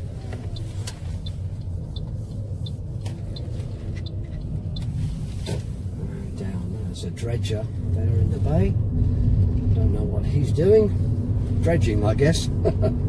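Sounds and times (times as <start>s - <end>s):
turn signal ticking: 0.0s - 11.8s
car engine and road rumble: 0.0s - 13.0s.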